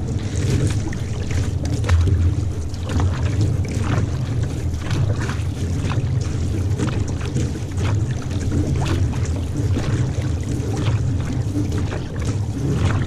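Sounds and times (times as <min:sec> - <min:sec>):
paddles dipping in water: 0:00.0 - 0:13.0
water rushing along hull: 0:00.0 - 0:13.0
wind rumble on microphone: 0:00.0 - 0:13.0.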